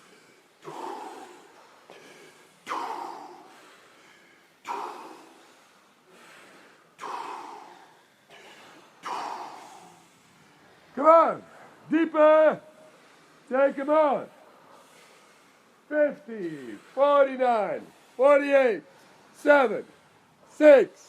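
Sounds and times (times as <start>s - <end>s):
deep rhythmic breathing: 0.0s - 21.0s.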